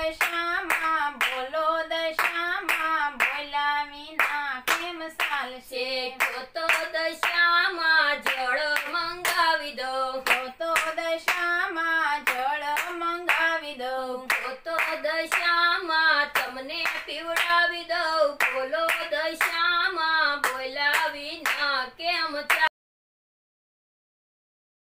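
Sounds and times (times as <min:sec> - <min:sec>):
hand clapping: 0:00.0 - 0:05.6, 0:06.2 - 0:13.6, 0:14.2 - 0:21.8, 0:22.4 - 0:22.7
devotional song singing: 0:00.0 - 0:22.7.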